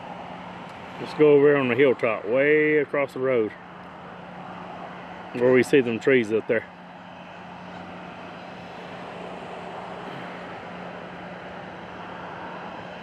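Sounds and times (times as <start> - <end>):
distant road traffic: 0.0 - 13.0.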